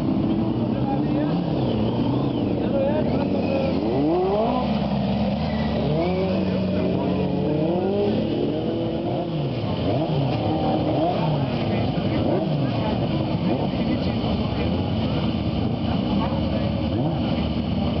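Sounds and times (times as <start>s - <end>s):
small engines revving: 0.0s - 18.0s.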